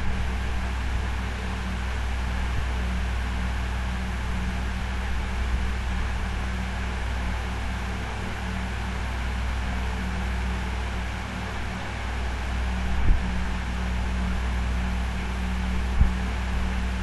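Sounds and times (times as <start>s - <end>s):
recording hum and hiss: 0.0s - 17.0s.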